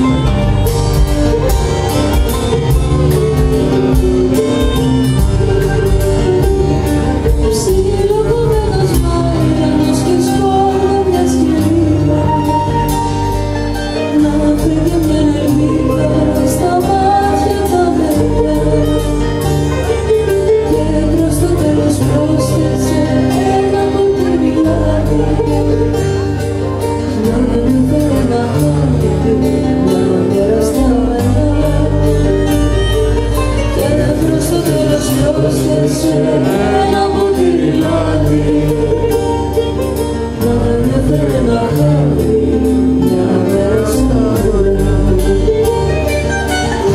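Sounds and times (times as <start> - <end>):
acoustic guitar: 0.0 - 46.9
drum kit: 0.0 - 46.9
electric bass: 0.0 - 46.9
woman singing into microphone: 7.2 - 46.9.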